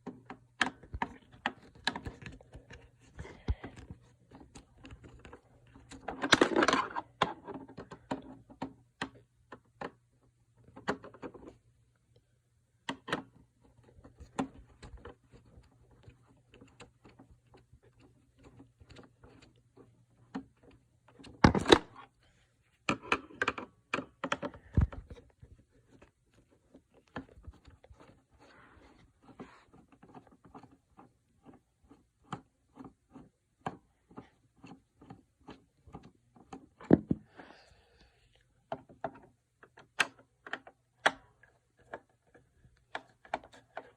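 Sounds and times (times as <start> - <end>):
plastic parts clicking and clattering: 0.0 - 11.6, 12.8 - 22.2, 22.8 - 37.4, 38.6 - 43.9.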